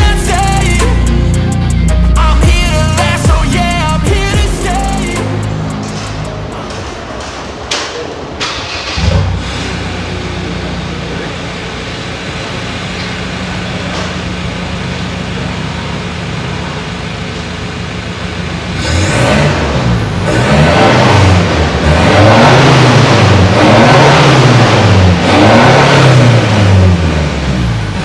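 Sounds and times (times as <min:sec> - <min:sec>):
diesel engine starting and idling: 0:00.0 - 0:28.0.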